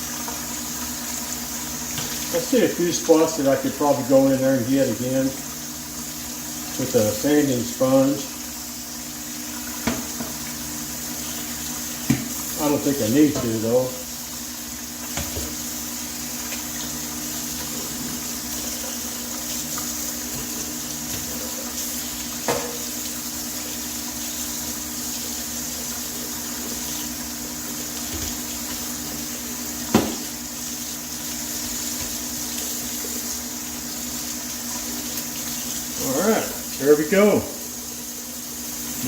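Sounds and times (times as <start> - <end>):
running water rinsing metal: 0.0 - 39.0.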